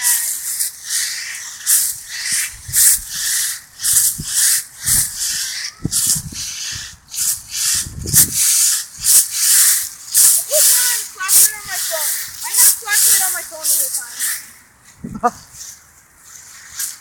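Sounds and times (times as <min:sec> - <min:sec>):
rustling hissing bursts: 0:00.0 - 0:17.0.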